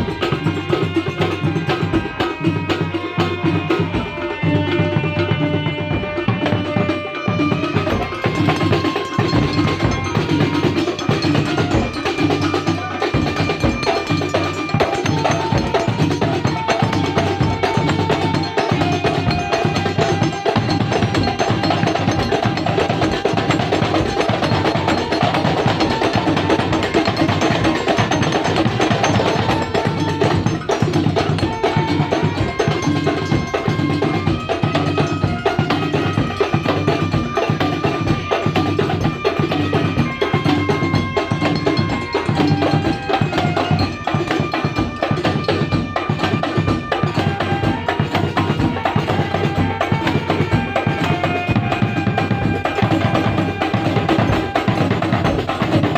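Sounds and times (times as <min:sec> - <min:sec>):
frame drums and hand drums: 0:00.0 - 0:55.9
held melodic notes: 0:00.0 - 0:55.9.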